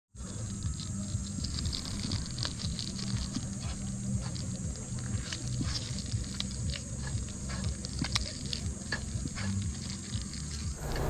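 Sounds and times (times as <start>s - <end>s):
steady high-pitched hiss: 0.2s - 11.0s.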